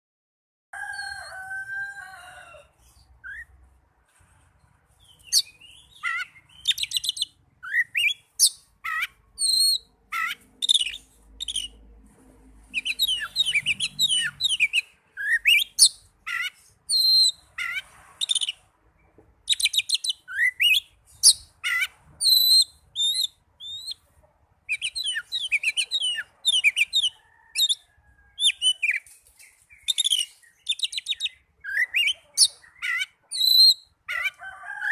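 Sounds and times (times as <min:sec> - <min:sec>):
songbird chirps trills and whistles: 0:02.8 - 0:03.6, 0:05.0 - 0:11.8, 0:12.7 - 0:34.9.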